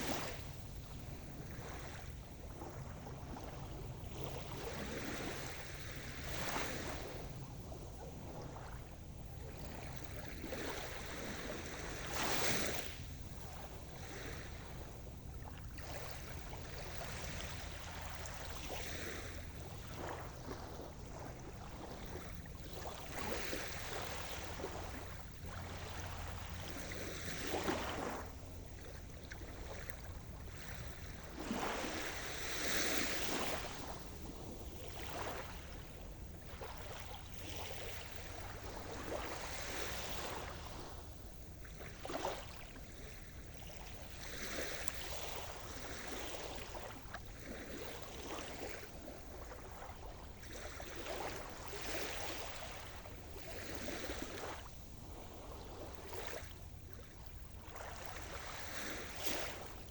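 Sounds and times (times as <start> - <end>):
waves washing in: 0.0 - 59.9.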